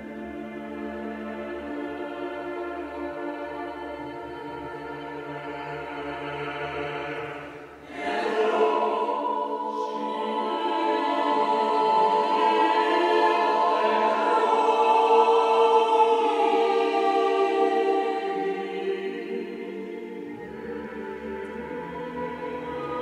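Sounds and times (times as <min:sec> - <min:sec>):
choir singing sustained chords: 0:00.0 - 0:23.0.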